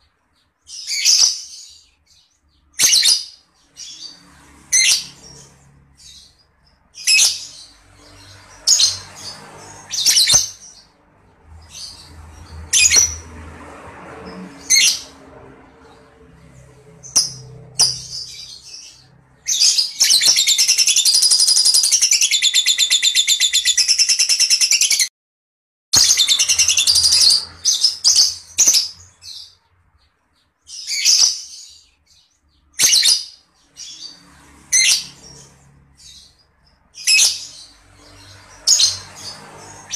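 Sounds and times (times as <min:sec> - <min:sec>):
lovebird chirping and chattering: 0:00.4 - 0:10.9, 0:11.5 - 0:13.2, 0:15.8 - 0:25.1, 0:26.0 - 0:39.9.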